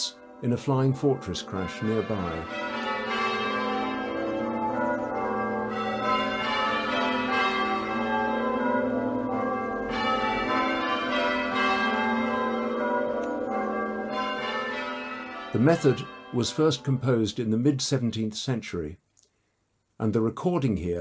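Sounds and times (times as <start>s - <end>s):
muffled church bells ringing: 0.0s - 18.1s.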